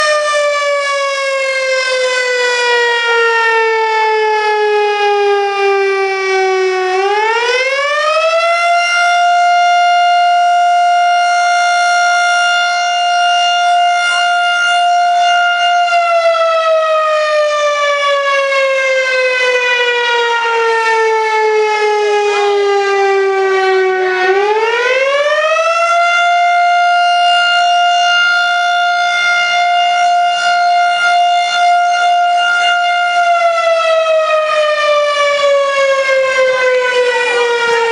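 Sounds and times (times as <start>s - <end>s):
fire alarm siren wailing: 0.0s - 37.9s.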